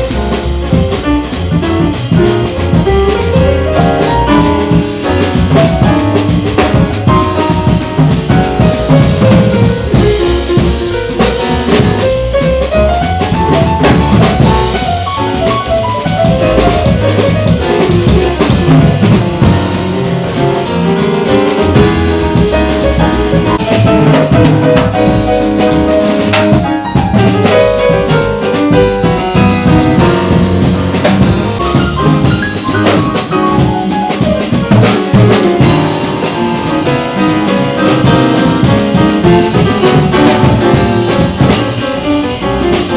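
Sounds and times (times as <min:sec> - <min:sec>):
drum kit with cymbals: 0:00.0 - 0:42.9
piano: 0:00.0 - 0:42.9
walking double bass: 0:00.0 - 0:42.9.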